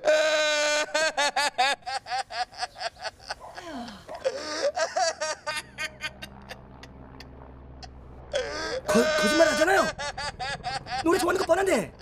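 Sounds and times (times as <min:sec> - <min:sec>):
man sobbing: 0:00.0 - 0:06.9, 0:08.3 - 0:12.0.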